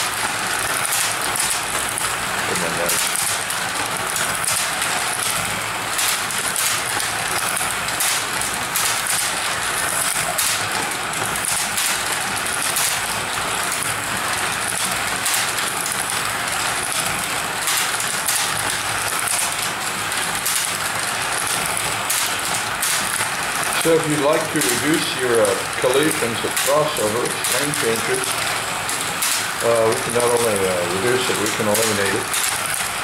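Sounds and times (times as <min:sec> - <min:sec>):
slot cars whirring: 0:00.0 - 0:33.0.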